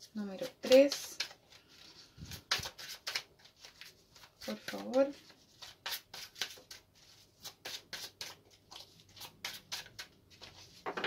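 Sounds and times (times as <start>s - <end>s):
cards being shuffled: 0.4s - 11.0s.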